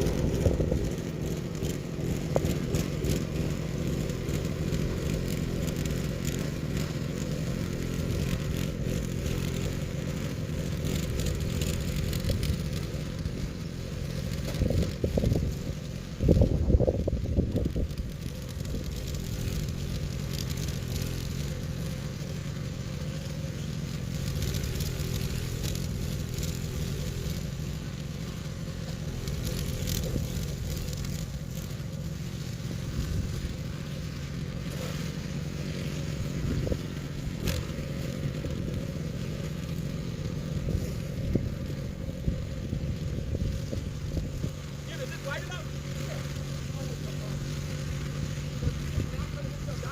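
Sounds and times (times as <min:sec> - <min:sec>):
engine running steadily: 0:00.0 - 0:49.9
scraping and crackling: 0:00.0 - 0:49.9.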